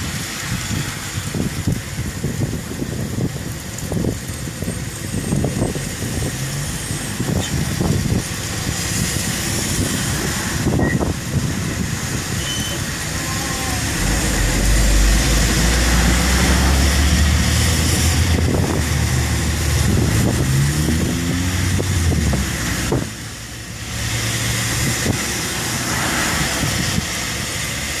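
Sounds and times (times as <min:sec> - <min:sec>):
storm rain hiss: 0:00.0 - 0:28.0
vehicle engine accelerating: 0:04.0 - 0:28.0.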